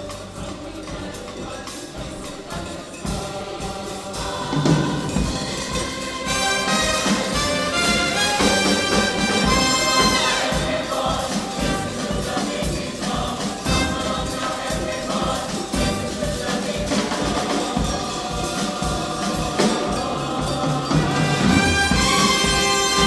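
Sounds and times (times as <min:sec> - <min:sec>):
choir singing in harmony: 0:00.0 - 0:23.0
percussion beat: 0:00.0 - 0:23.0.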